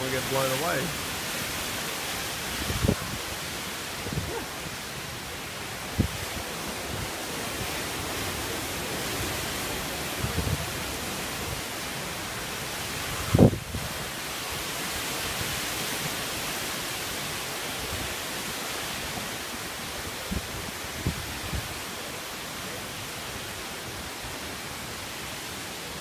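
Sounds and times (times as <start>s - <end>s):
wind and driving rain: 0.0s - 26.0s.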